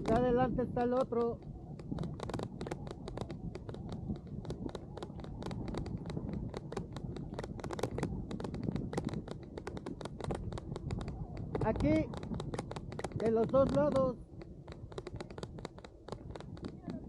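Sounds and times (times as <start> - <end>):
low riding rumble: 0.0 - 17.0
raindrops clicking on camera: 0.0 - 17.0.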